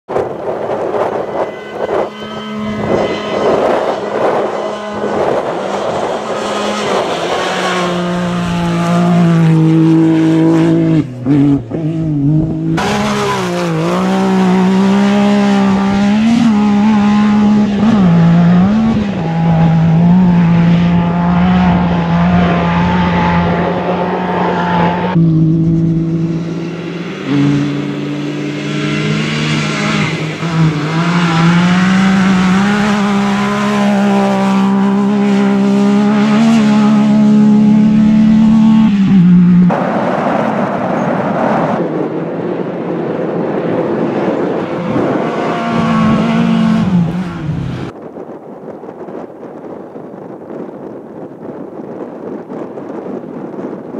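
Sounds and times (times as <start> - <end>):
buggy engine running hard: 0.1 - 48.0.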